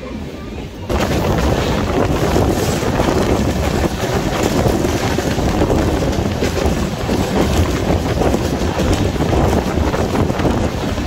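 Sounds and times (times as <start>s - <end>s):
loud wind rush on microphone: 0.0s - 11.0s
train running rumble: 0.0s - 11.0s.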